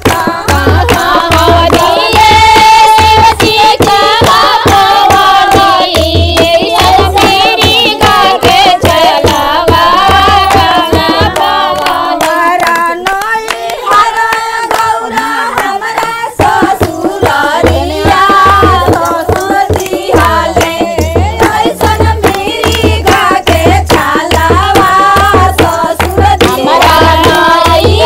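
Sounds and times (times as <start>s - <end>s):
rhythmic hand-clapping: 0.0s - 28.0s
women singing together: 0.0s - 28.0s.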